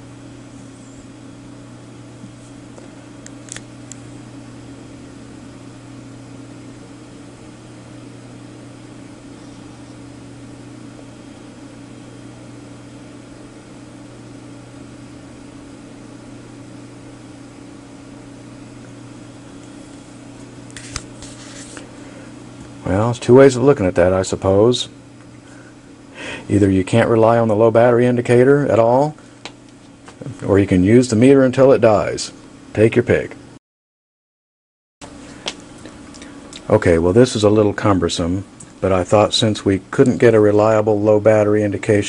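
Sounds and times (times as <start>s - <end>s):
fan-like background noise: 0.0s - 33.6s, 35.0s - 42.0s
steady electrical hum: 0.0s - 33.6s, 35.0s - 42.0s.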